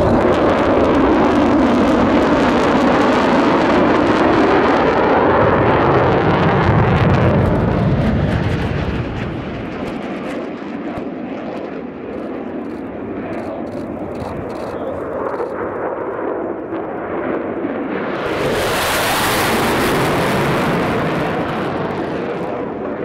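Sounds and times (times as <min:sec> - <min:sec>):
fighter jet passing low: 0:00.0 - 0:23.0.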